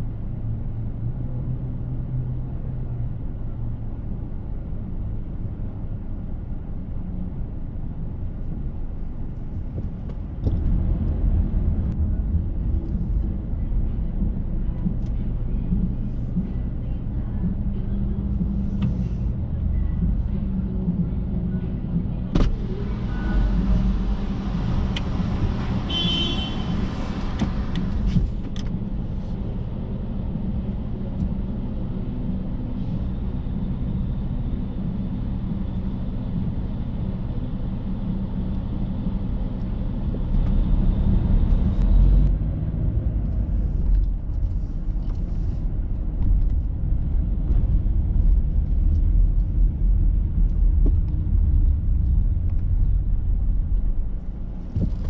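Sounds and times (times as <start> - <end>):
vehicle engine running: 1.2 - 55.0.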